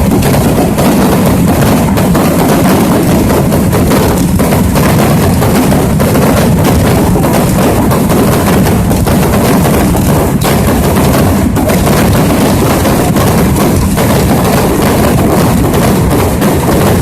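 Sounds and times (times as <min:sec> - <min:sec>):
fireworks banging and crackling: 0:00.0 - 0:17.0.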